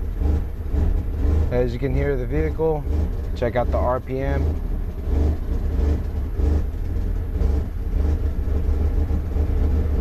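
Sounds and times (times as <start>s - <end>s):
truck engine idling unevenly: 0.0s - 10.0s.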